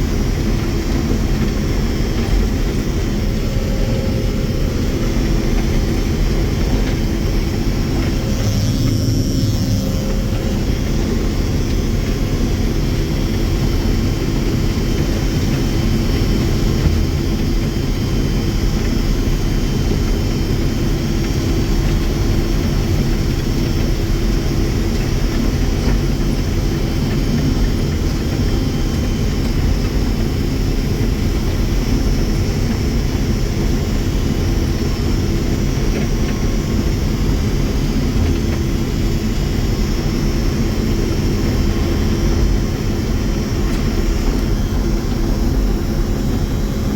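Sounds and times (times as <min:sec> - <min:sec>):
combine harvester machinery drone: 0:00.0 - 0:46.9.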